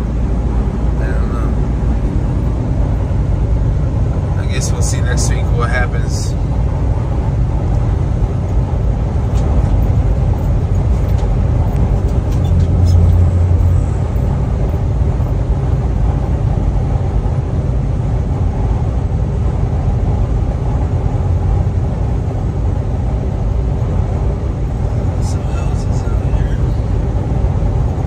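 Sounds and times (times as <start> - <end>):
truck engine and tyres droning: 0.0 - 28.0.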